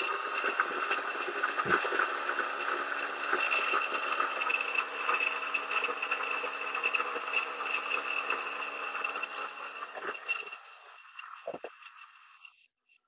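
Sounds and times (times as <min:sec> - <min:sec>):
coffee grinder grinding beans: 0:00.0 - 0:12.0.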